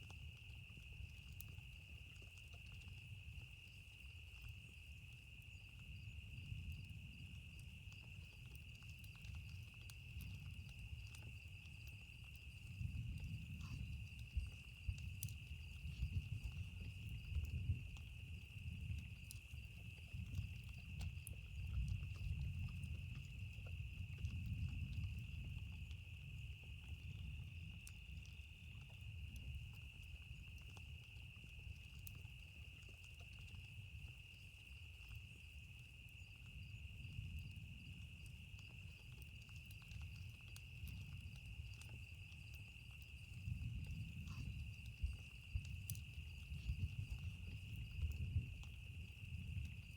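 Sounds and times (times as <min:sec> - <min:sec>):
campfire crackling: 0:00.0 - 0:49.9
insect chorus: 0:00.0 - 0:49.9.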